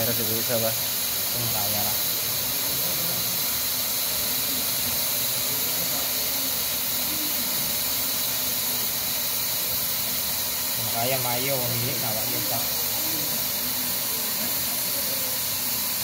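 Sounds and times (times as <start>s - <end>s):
hot-air welding gun hissing: 0.0s - 16.0s.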